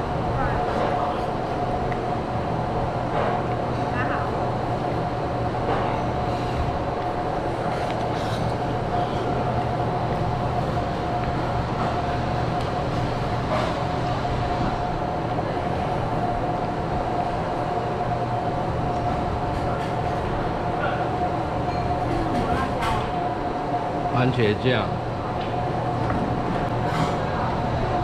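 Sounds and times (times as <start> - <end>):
machine drone with whine: 0.0 - 28.0.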